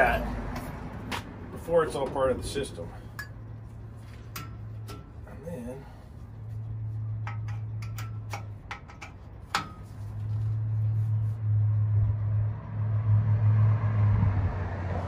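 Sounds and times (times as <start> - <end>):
low steady hum: 0.0 - 14.3.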